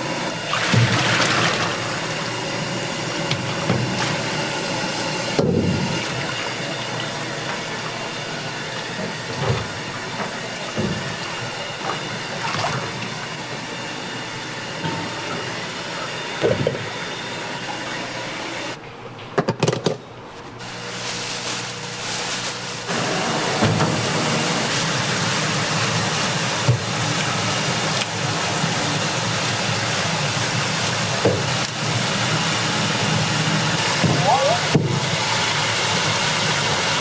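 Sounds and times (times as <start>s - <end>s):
hissing kitchen noise: 0.0s - 18.8s, 20.6s - 37.0s.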